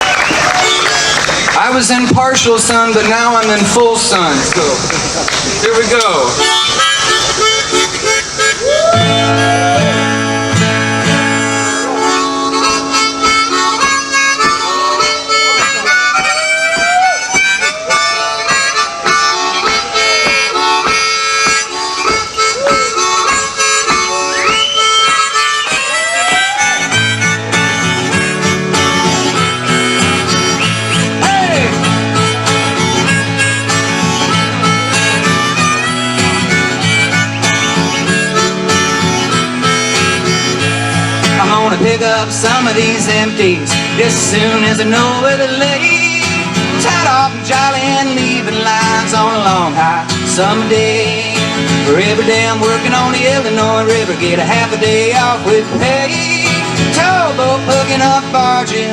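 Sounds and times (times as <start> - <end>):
bluesy harmonica playing: 0.0 - 58.9.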